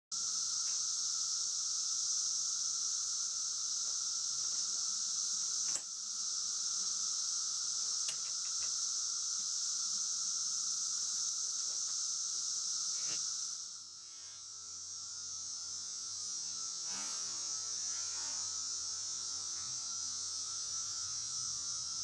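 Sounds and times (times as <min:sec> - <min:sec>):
high-pitched insect chorus: 0:00.1 - 0:22.0.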